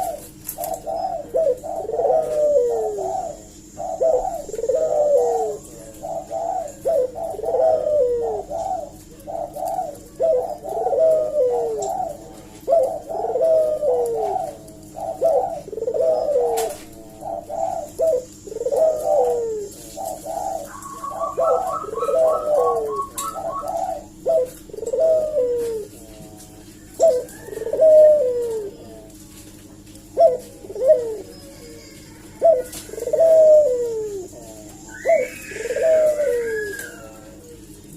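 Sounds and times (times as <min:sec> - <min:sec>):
doves cooing: 0:00.0 - 0:37.9
steady low hum: 0:00.0 - 0:37.9.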